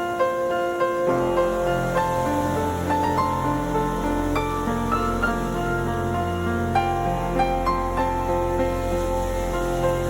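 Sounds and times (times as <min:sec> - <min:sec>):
new-age music held tones: 0:00.0 - 0:10.0
soft piano-like notes: 0:00.0 - 0:10.0.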